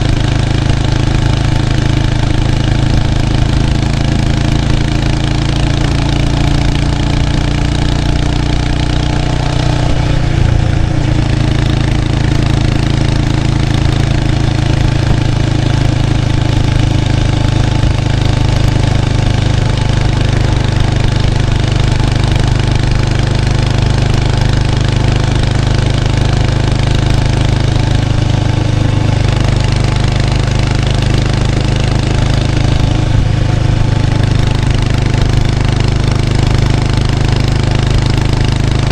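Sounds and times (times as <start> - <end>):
motorcycle exhaust note: 0.0 - 38.9.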